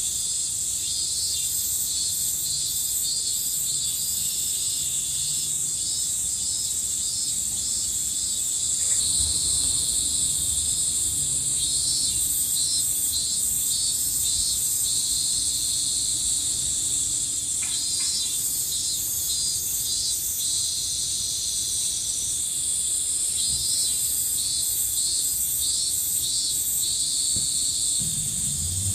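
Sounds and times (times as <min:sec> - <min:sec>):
insects droning: 0:00.0 - 0:28.9
pulsing insect calls: 0:00.0 - 0:28.9.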